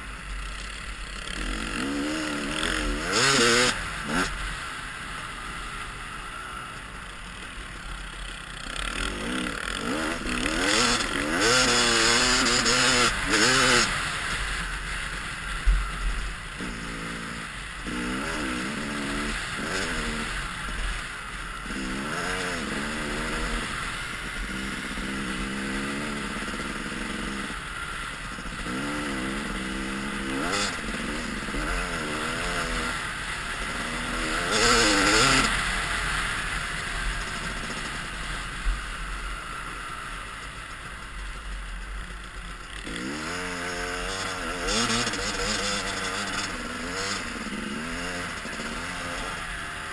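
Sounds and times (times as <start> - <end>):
dirt bike engine revving: 0.0 - 6.6, 7.4 - 38.9, 42.3 - 49.9.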